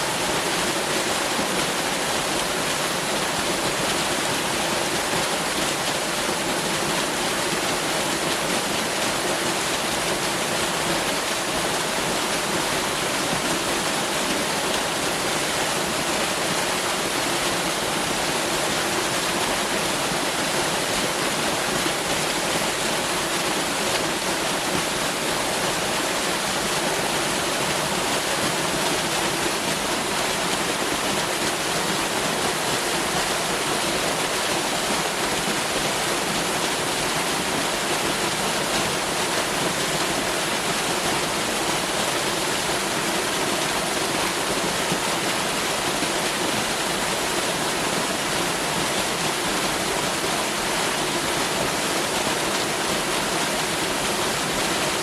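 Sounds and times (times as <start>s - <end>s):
waterfall pouring: 0.0s - 55.0s.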